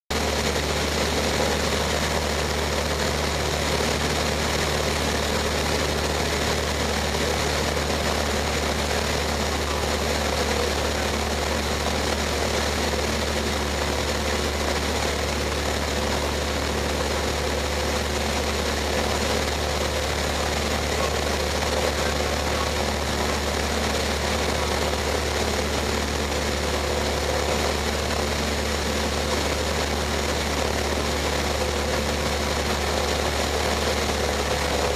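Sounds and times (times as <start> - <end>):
light aircraft engine drone: 0.1 - 34.9.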